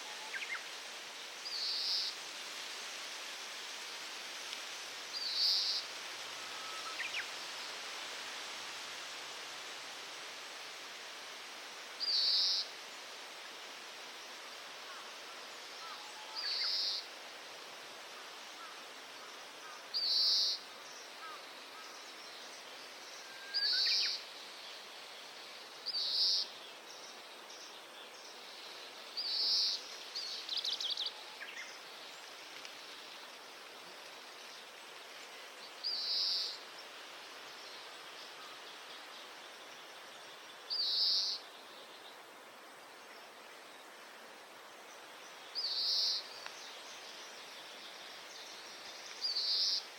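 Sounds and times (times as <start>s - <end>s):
background hiss: 0.0s - 49.9s.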